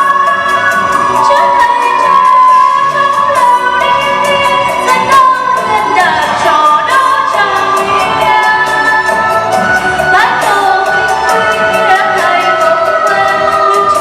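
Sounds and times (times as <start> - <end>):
backing music with steady beat: 0.0 - 14.0
voices singing: 0.0 - 14.0.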